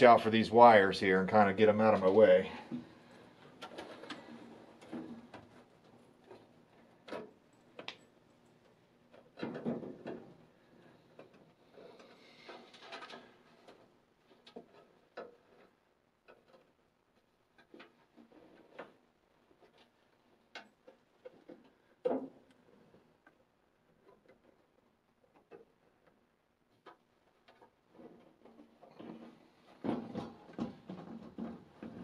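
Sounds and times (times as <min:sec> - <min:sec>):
wiring rustling and clicking: 0:01.3 - 0:32.0.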